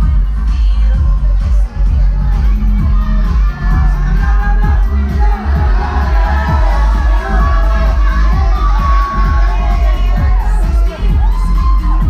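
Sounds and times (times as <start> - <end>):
crowd shouting and cheering: 0.0 - 12.0
loud pop music with bass beat: 0.0 - 12.0.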